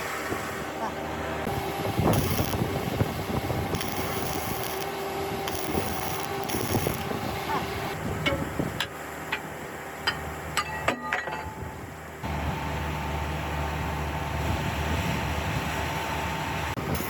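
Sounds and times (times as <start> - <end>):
machine whine and rumble: 0.0 - 17.0.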